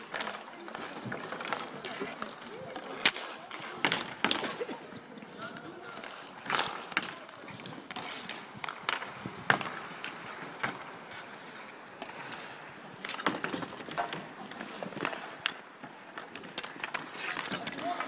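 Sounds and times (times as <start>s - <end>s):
hockey sticks and puck clacking: 0.0s - 18.0s
skate wheels rumbling on asphalt: 0.0s - 18.0s.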